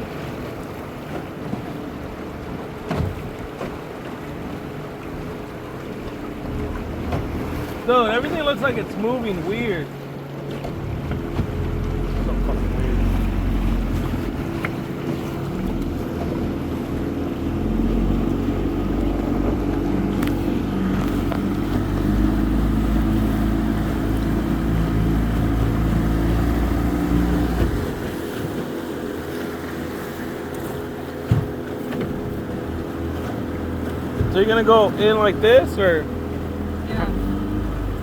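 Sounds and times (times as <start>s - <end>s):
outboard motor running: 0.0s - 38.0s.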